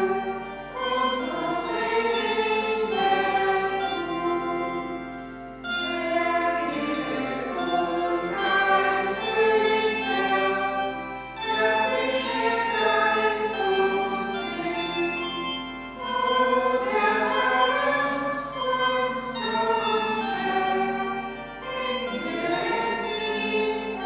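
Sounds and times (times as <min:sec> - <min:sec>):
choir singing a hymn: 0:00.0 - 0:24.0.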